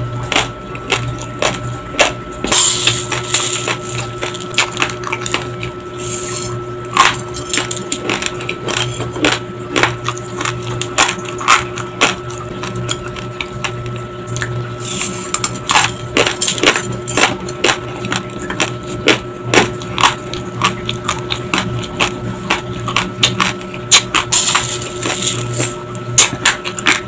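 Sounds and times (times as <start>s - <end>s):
faint steady hum: 0.0s - 27.0s
dry rice crunching between teeth: 0.3s - 14.0s, 14.8s - 27.0s.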